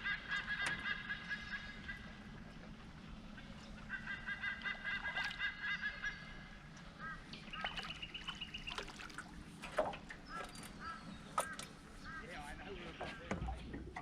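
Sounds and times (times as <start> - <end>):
bird honking call: 0.0 - 9.0, 10.2 - 13.3.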